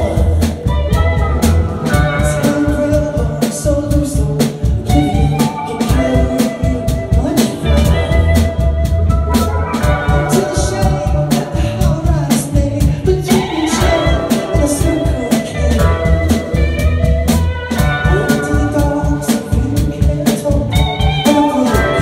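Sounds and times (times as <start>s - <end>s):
drum kit beat: 0.0s - 22.0s
guitar: 0.0s - 22.0s
person singing: 0.0s - 22.0s.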